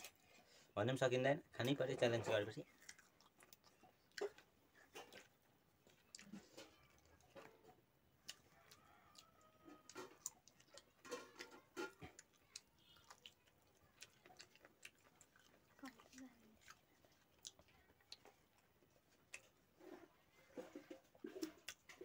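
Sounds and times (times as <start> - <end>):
person chewing food: 0.0 - 0.6, 2.6 - 22.0.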